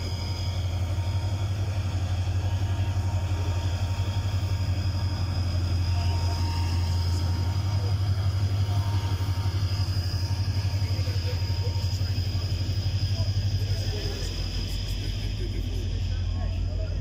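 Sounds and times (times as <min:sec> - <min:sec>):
diesel locomotive engine drone: 0:00.0 - 0:17.0
faint high whine: 0:00.0 - 0:17.0.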